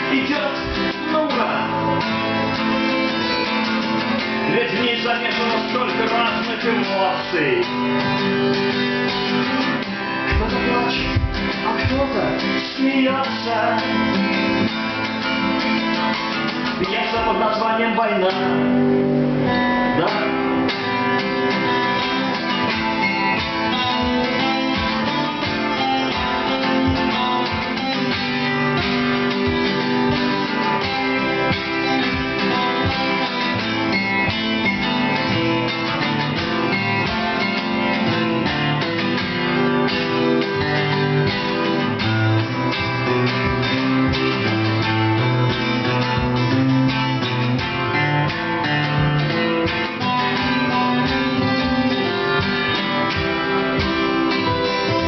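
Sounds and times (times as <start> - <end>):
acoustic guitars strumming chords: 0.0 - 55.0.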